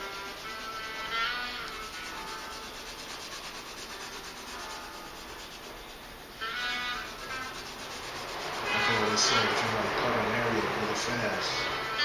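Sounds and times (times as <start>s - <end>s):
pencil scratching on paper: 0.0s - 10.2s.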